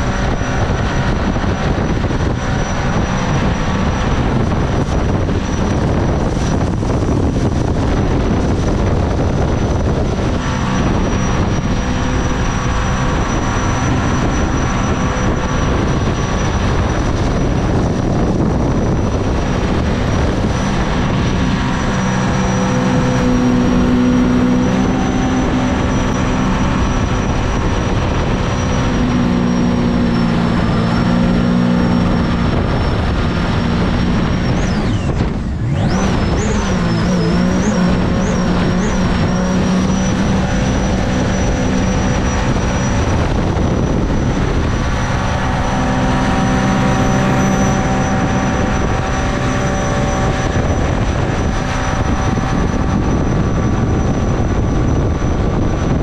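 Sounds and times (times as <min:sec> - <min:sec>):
jet boat engine running hard: 0:00.0 - 0:56.0.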